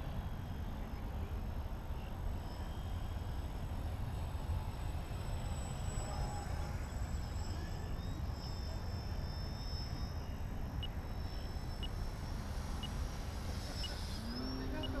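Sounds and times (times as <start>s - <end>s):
model plane motor whine: 0.0s - 15.0s.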